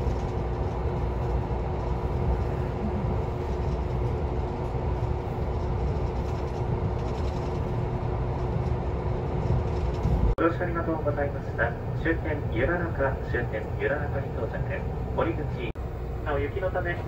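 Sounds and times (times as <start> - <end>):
constant low hum: 0.0 - 17.0
train running gear rumbling on rails: 0.0 - 17.0.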